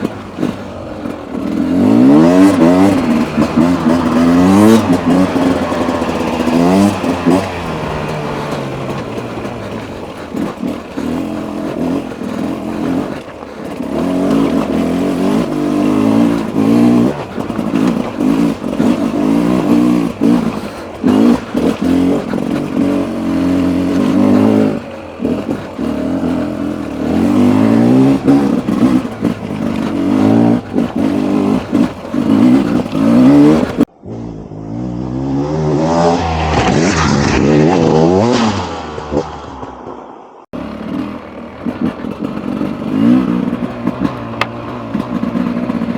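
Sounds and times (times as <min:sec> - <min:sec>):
motorcycle knocking over ground: 0:00.0 - 0:33.9, 0:40.6 - 0:45.9
two-stroke motorcycle engine revving: 0:00.0 - 0:45.9.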